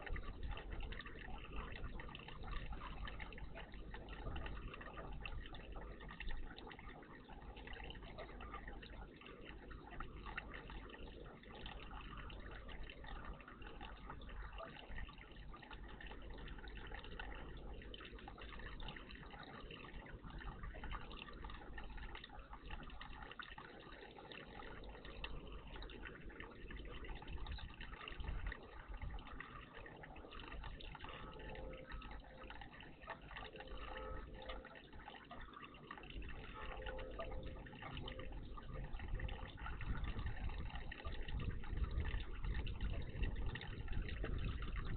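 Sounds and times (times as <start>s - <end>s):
water trickling and dripping: 0.0s - 44.9s.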